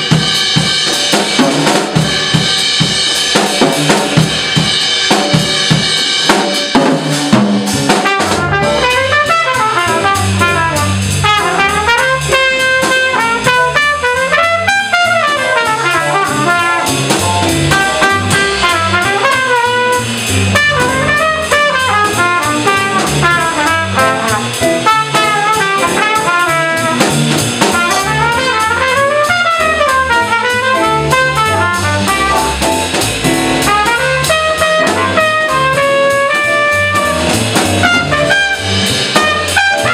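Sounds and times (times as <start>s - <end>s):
drum kit with cymbals: 0.0s - 39.9s
upright bass: 0.0s - 39.9s
trumpet solo: 7.9s - 39.9s.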